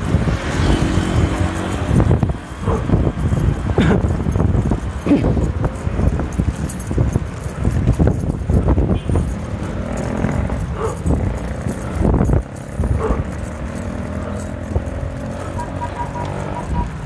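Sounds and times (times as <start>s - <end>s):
bike tyre rumble on road: 0.0s - 17.0s
wind buffeting microphone: 0.0s - 17.0s.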